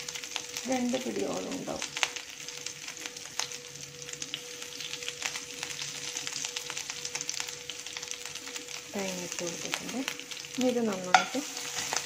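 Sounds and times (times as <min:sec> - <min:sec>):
coconut sizzling in oil: 0:00.0 - 0:12.0.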